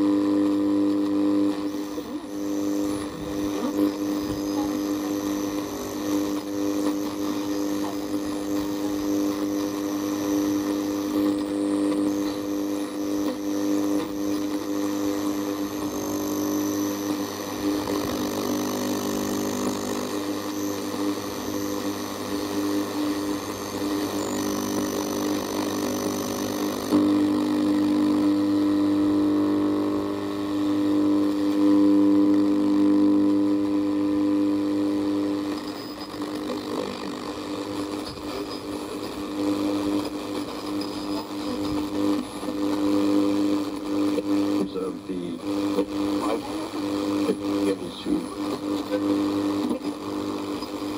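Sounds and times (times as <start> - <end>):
radio drone of low tones: 0.0 - 50.9
radio hiss: 0.0 - 50.9.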